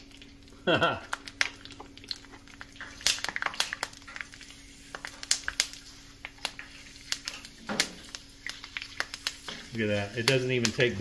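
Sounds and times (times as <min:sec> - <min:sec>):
deep fryer low hum: 0:00.0 - 0:11.0
pork skins crackling in hot oil: 0:00.0 - 0:11.0.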